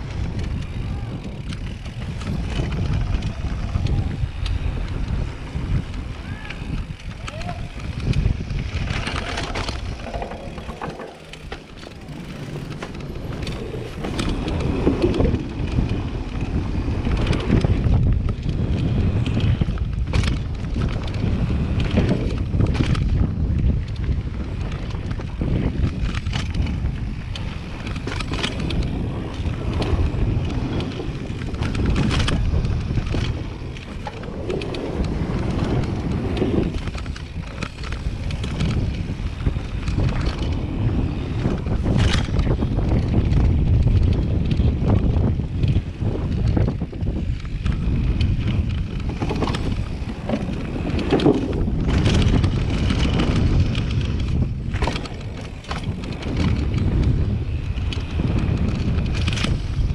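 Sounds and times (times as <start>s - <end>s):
bike rattling: 0.0s - 59.9s
tyres rolling on dirt: 0.0s - 59.9s
wind on microphone: 0.0s - 59.9s.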